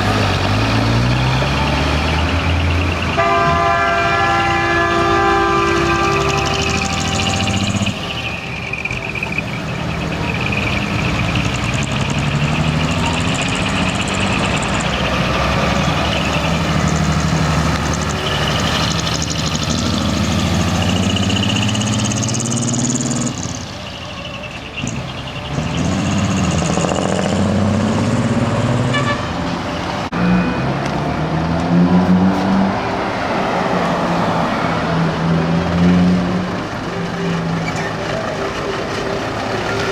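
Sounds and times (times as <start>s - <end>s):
diesel truck engines revving: 0.0s - 39.9s.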